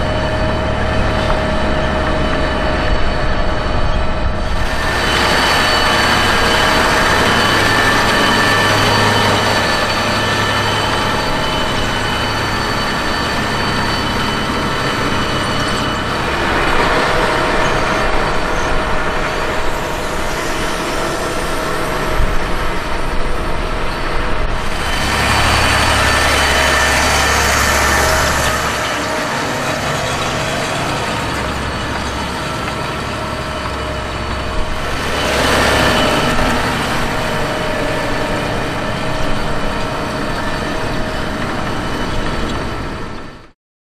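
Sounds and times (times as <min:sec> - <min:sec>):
tractor diesel engine running: 0:00.0 - 0:43.5
steady whine: 0:00.0 - 0:43.6.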